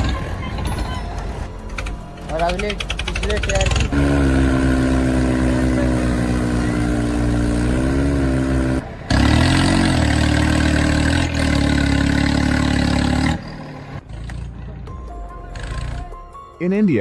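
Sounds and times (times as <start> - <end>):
tractor diesel engine labouring: 0.0 - 16.3.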